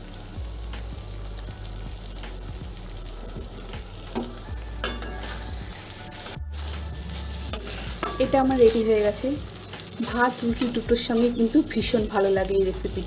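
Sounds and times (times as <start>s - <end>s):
gravy sizzling softly: 0.0s - 13.0s.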